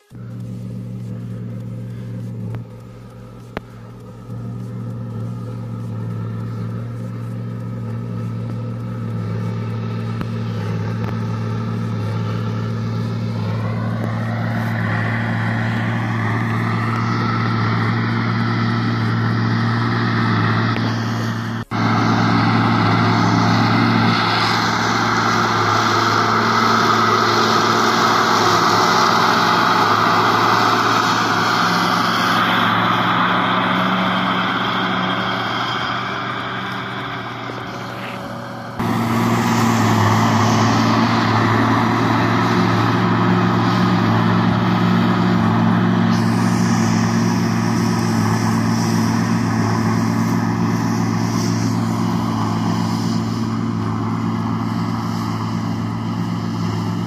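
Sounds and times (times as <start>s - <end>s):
baler churning: 0.0s - 57.0s
tractor diesel engine under load: 0.0s - 57.0s.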